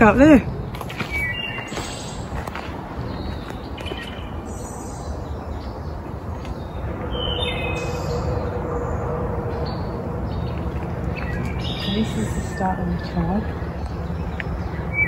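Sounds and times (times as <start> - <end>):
low rumbling on microphone: 2.2 - 15.0.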